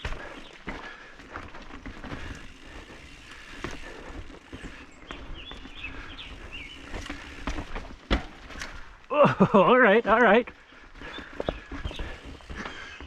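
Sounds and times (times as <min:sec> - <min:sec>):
bike rattling clicks and knocks: 0:00.0 - 0:13.0
bike tyre and wind rumble: 0:00.0 - 0:13.0
birds chirping: 0:00.0 - 0:13.0.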